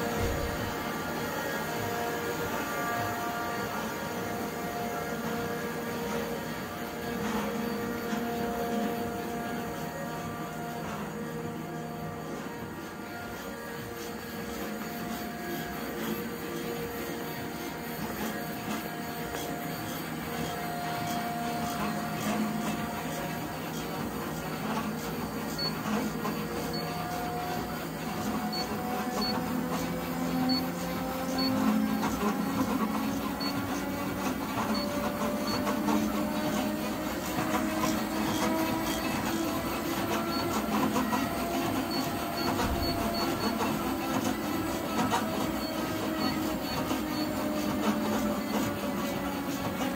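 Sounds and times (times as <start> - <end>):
printing press humming: 0.0 - 49.9.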